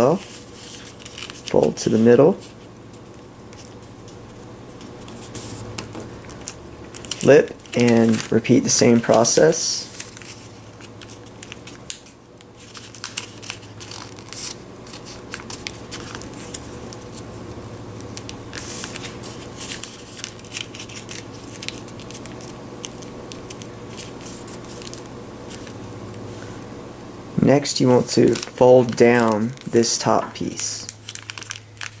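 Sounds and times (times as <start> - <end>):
paper folding and crackling: 0.0 - 17.3, 18.0 - 25.8, 27.6 - 32.0
sharp clicks of paper creasing: 0.2 - 2.5, 4.7 - 17.2, 18.0 - 25.8, 27.9 - 32.0.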